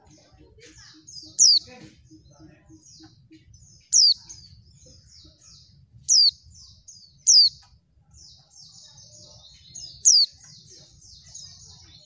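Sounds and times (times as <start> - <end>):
high bird twittering: 0.2 - 12.0.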